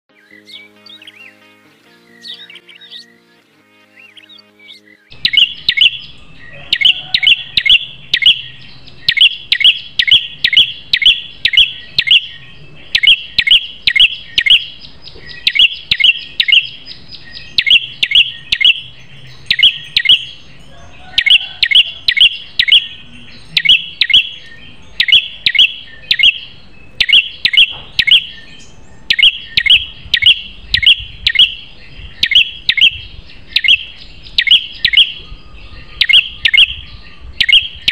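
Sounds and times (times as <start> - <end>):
bird chirping in quick bursts: 4.0 - 20.3, 21.2 - 35.3.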